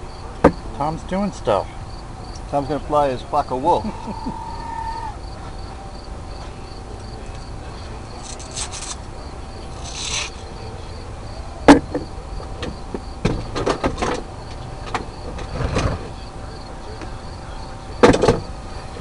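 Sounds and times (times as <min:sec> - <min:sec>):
crickets chirping: 0:00.0 - 0:19.0
faint steady hum: 0:00.0 - 0:19.0.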